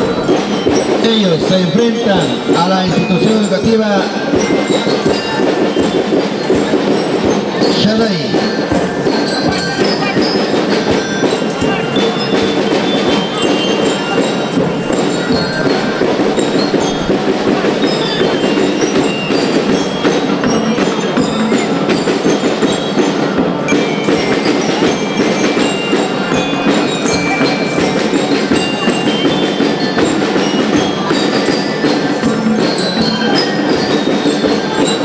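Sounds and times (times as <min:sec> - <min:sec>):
band music: 0:00.0 - 0:35.0
glockenspiel melody: 0:00.0 - 0:35.0.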